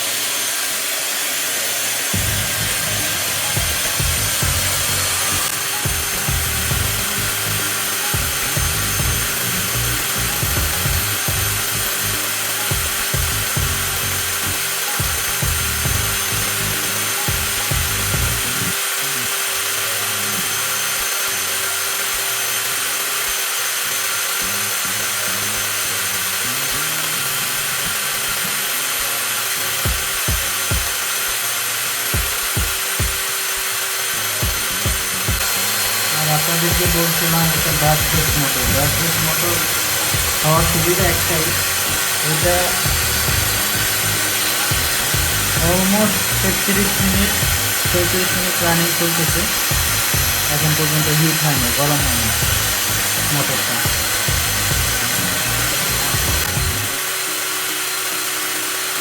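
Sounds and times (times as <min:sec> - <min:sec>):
angle grinders whining: 0:00.0 - 0:59.0.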